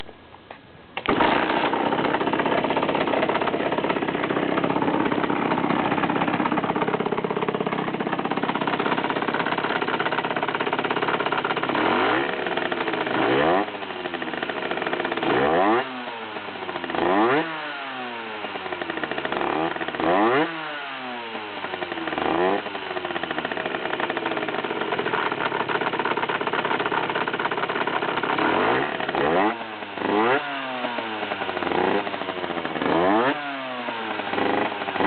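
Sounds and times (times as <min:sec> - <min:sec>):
motorcycle engine idling and revving: 0:01.0 - 0:35.0.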